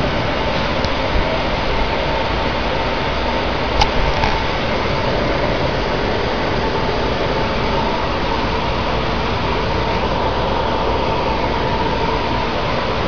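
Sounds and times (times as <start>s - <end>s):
cooling blowers rushing air: 0.0s - 13.0s
faint steady whine: 0.0s - 13.0s.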